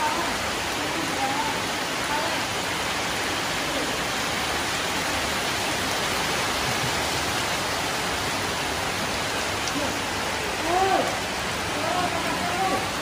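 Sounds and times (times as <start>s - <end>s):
heavy rain on paving and foliage: 0.0s - 13.0s.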